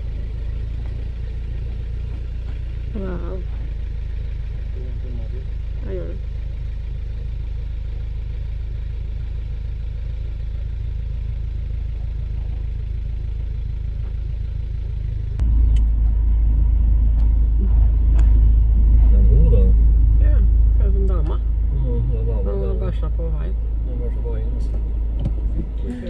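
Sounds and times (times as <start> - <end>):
car rumble: 0.0 - 26.0.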